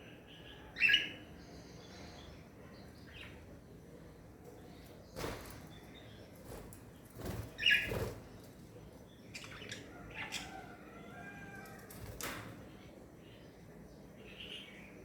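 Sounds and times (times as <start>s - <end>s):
small birds chirping: 0.0s - 11.9s, 12.6s - 15.0s.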